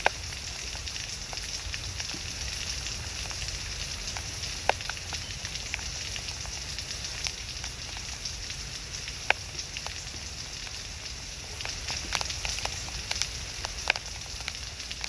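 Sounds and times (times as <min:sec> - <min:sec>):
sharp crackles and pops: 0:00.0 - 0:15.0
steady hiss: 0:00.0 - 0:15.0.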